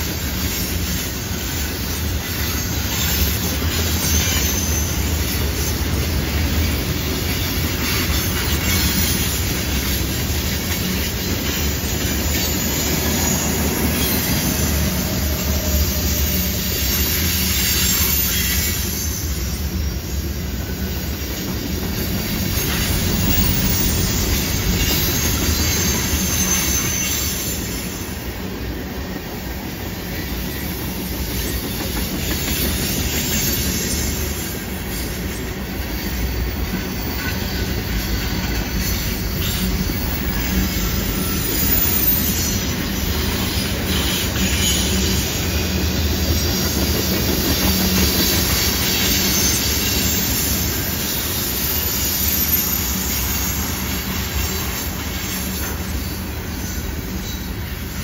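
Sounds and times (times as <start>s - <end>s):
train wheels rumbling on rails: 0.0s - 58.0s
wheel squeal: 0.4s - 28.1s, 31.2s - 58.0s.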